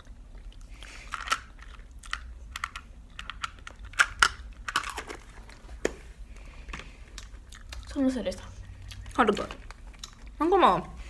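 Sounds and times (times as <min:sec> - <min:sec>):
chewing crunchy candies: 0:00.0 - 0:05.3, 0:06.4 - 0:10.4.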